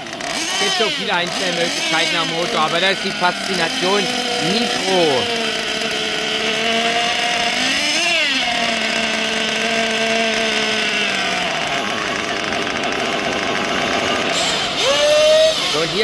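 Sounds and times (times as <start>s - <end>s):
small nitro engine running: 0.0s - 16.0s.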